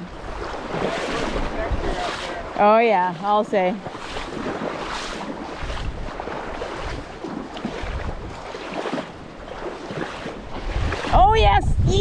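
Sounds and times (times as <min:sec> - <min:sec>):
river water rushing: 0:00.0 - 0:11.2
wind gusting on microphone: 0:00.0 - 0:12.0.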